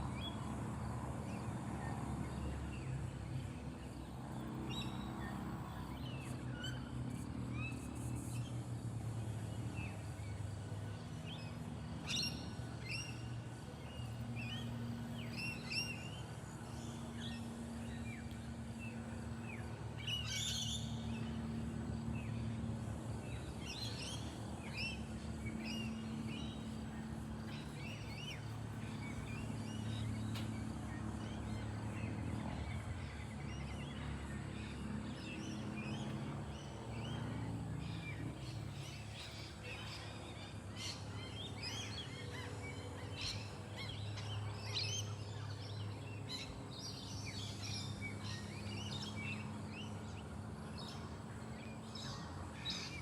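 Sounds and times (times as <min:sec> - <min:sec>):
steady low hum: 0:00.0 - 0:53.0
wild birds chirping: 0:00.0 - 0:53.0.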